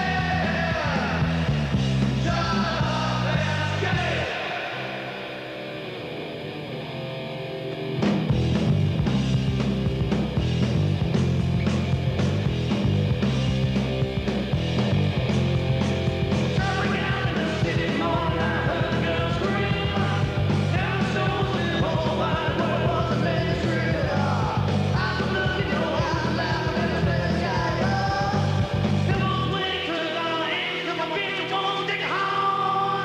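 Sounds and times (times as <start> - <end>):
bass line: 0.0 - 6.6, 7.8 - 33.0
rock song with singing: 0.0 - 33.0.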